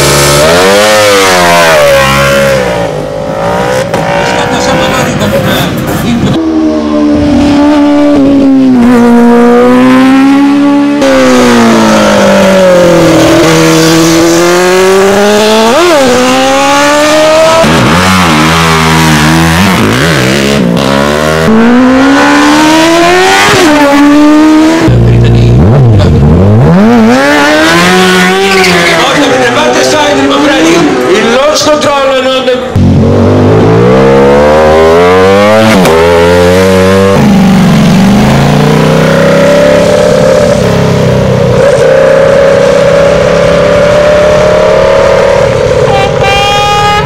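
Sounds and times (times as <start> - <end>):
motorcycle engines revving high: 0.0 - 47.0.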